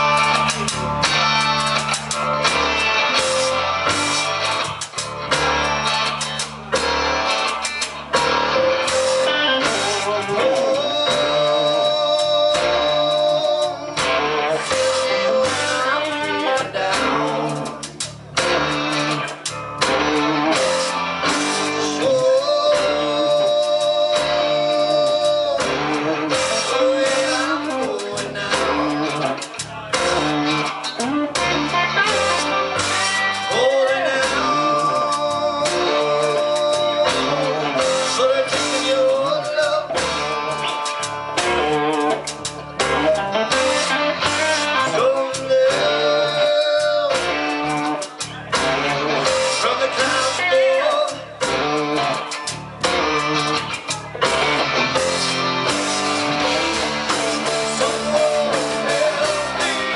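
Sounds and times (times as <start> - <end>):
blues-rock band playing: 0.0 - 59.9
electric guitar bending notes: 0.0 - 59.9.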